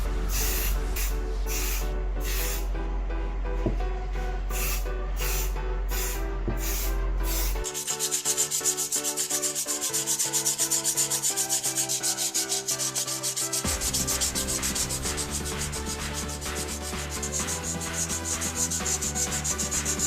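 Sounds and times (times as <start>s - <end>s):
sandpaper rubbing back and forth: 0.2s - 2.7s, 4.5s - 20.0s.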